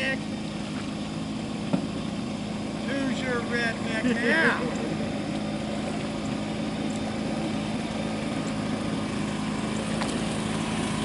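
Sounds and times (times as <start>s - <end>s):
blower engine running: 0.0s - 11.0s.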